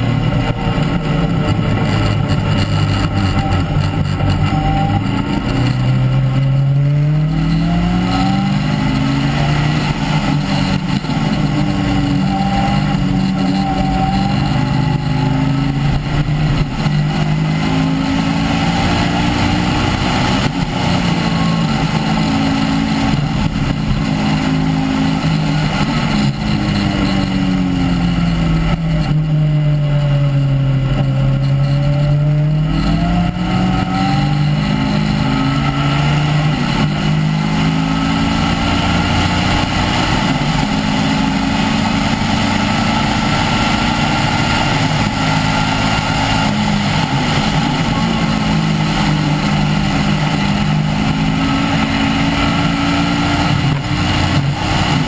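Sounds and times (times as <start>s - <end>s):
race car engine revving: 0.0s - 55.0s
wind and road noise: 0.0s - 55.0s.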